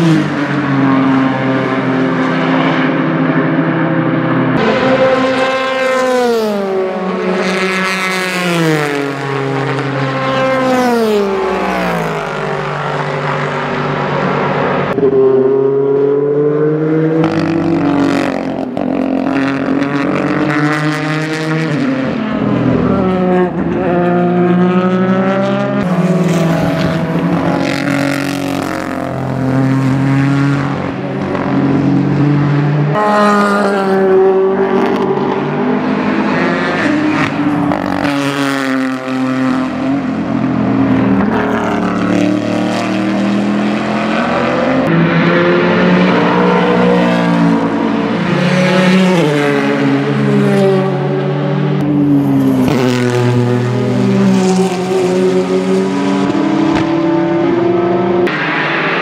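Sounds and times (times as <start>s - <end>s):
race car engine passing: 0.0s - 59.0s.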